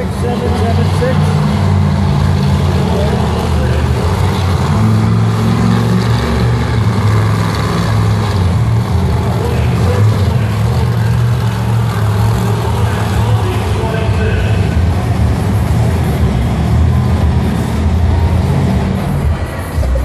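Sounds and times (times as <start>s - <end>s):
truck engine revving loudly: 0.0s - 20.0s.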